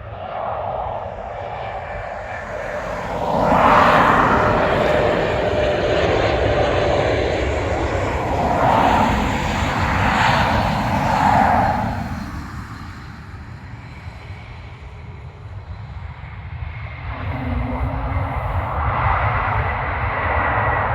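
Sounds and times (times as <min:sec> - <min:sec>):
jet engines of landing airliner: 0:00.0 - 0:20.9.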